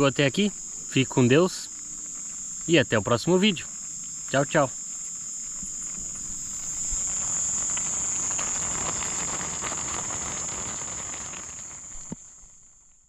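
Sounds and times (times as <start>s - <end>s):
crickets trilling: 0.0s - 13.0s
rustle: 0.0s - 13.0s.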